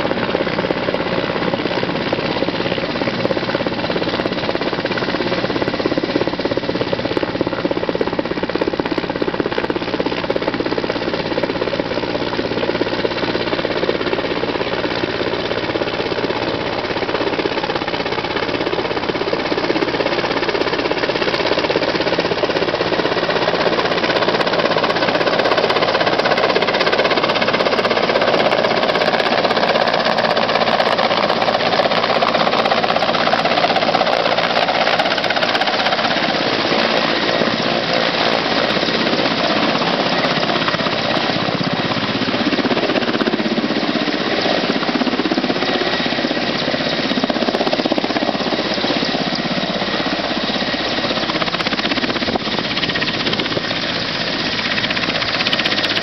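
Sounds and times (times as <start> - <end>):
helicopter rotor beating: 0.0 - 56.0
helicopter turbine noise: 0.0 - 56.0.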